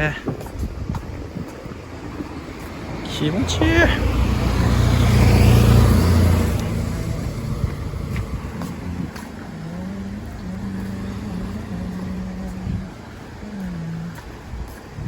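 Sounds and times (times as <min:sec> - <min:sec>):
vehicle passing by: 0:01.8 - 0:15.0
soft engine hum: 0:01.9 - 0:14.9.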